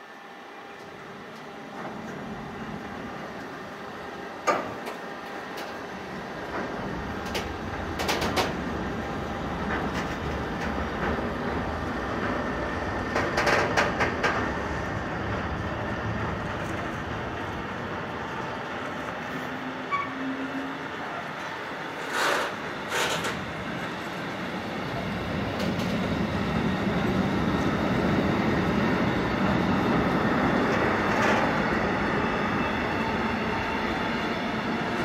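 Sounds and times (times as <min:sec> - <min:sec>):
train rumble: 0:00.7 - 0:35.0.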